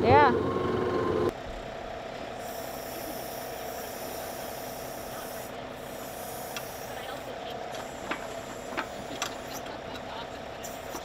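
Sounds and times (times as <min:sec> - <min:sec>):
tractor engine idling: 0:00.1 - 0:11.0.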